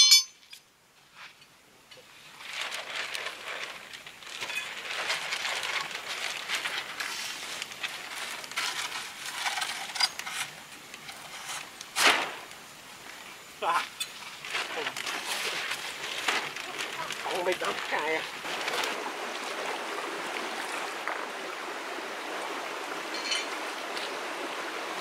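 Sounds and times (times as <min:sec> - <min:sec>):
rustling and crackling: 0:00.1 - 0:21.3.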